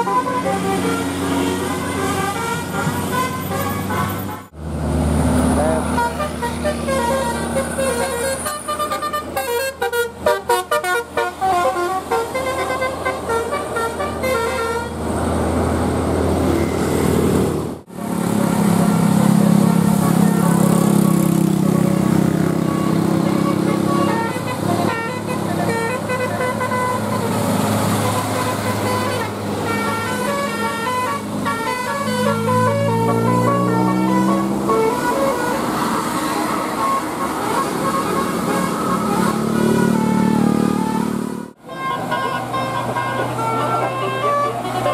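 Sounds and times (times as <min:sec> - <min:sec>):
bus musical horn melody: 0:00.0 - 0:04.6, 0:05.6 - 0:15.7, 0:19.4 - 0:44.9
bus engine running: 0:00.0 - 0:44.9.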